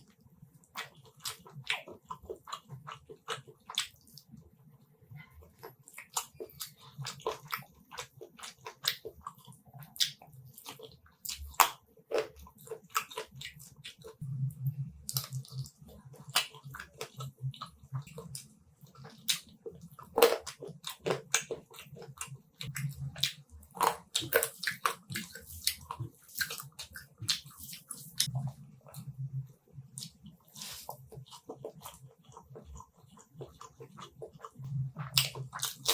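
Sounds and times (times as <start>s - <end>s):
wet chewing: 0.0s - 4.4s, 5.3s - 35.9s.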